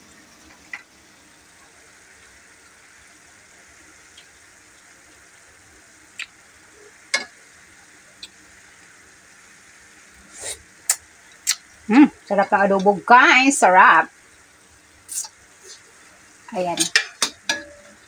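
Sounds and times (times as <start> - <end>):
food simmering in wok: 0.0 - 18.0.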